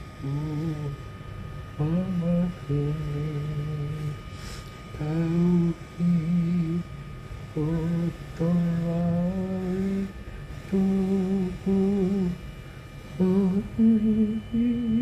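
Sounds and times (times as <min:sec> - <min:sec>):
person humming: 0:00.0 - 0:01.1, 0:01.8 - 0:04.2, 0:04.9 - 0:06.9, 0:07.5 - 0:12.4, 0:13.1 - 0:15.0.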